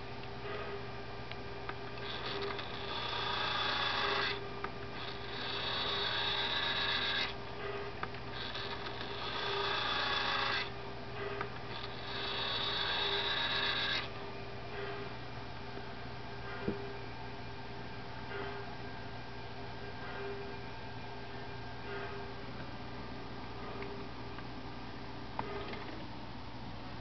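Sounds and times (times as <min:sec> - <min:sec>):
electric switch machine whining: 0:00.0 - 0:22.7.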